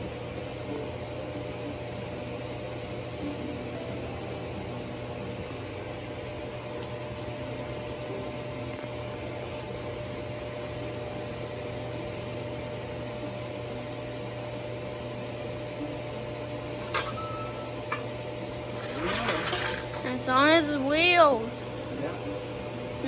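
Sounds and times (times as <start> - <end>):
mechanical hum: 0.0 - 23.0.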